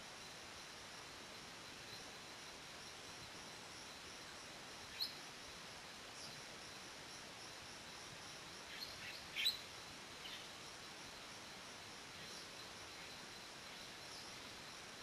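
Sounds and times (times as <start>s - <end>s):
background hiss: 0.0s - 15.0s
faint insect drone: 0.0s - 15.0s.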